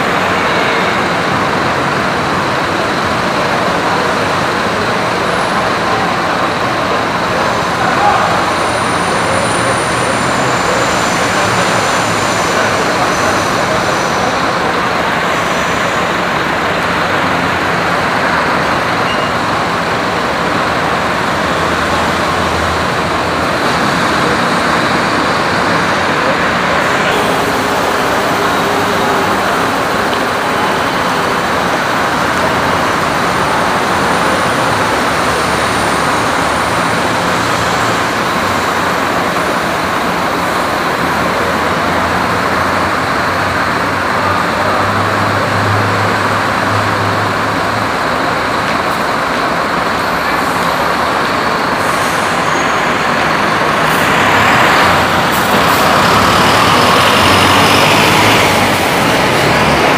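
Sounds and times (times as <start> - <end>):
bus diesel engine idling: 0.0 - 59.9
bus pulling away and passing: 0.0 - 59.9
traffic noise: 0.0 - 59.9.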